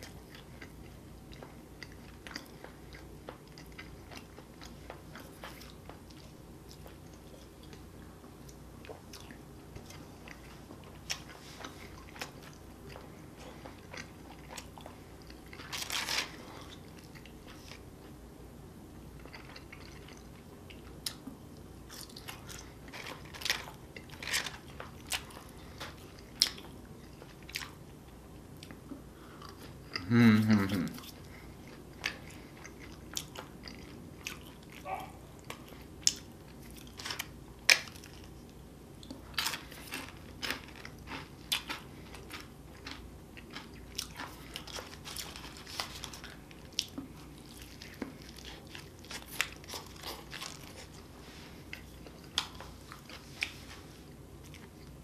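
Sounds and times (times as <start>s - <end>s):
chewing with wet mouth clicks: 0.0s - 15.9s, 19.2s - 30.1s, 30.9s - 51.0s
food crunching: 0.0s - 18.2s, 19.1s - 53.8s.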